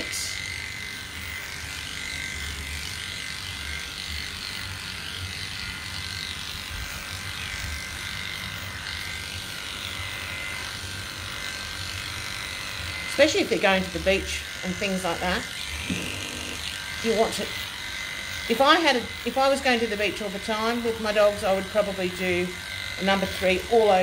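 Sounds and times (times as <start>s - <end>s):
electric clippers buzzing: 0.0s - 24.0s.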